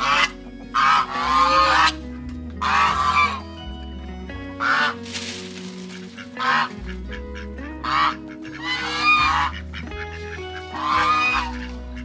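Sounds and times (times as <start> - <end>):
geese honking: 0.0 - 3.7, 4.4 - 12.0
background music: 0.0 - 12.0.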